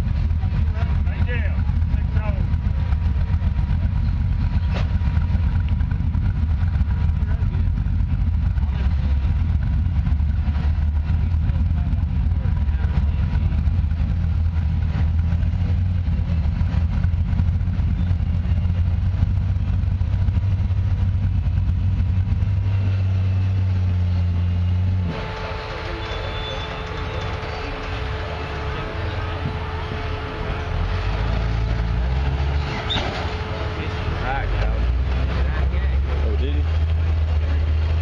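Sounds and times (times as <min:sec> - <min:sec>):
off-road vehicle engine at low revs: 0:00.0 - 0:38.0.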